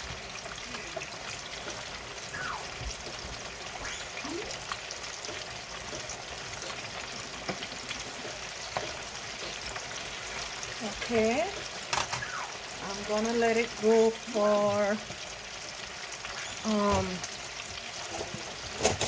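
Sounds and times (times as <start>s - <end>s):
chicken frying in hot oil: 0.0s - 19.0s
crackles and pops of frying: 0.0s - 19.0s.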